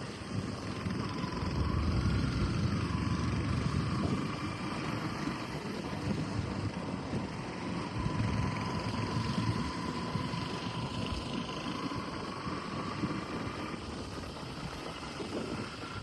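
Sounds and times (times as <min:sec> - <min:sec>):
vehicle engine rumbling: 0:00.2 - 0:13.8
road noise: 0:00.6 - 0:13.8.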